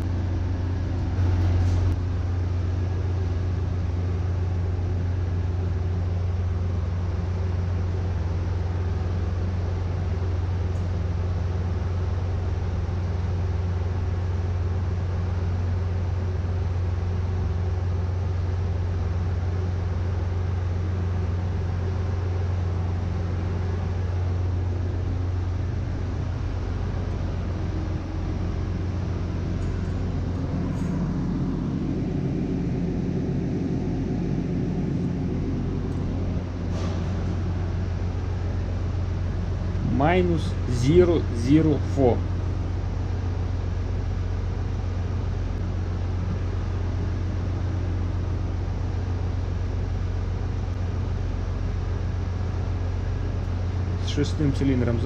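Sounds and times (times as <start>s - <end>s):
engine-room machinery hum: 0.0s - 55.0s.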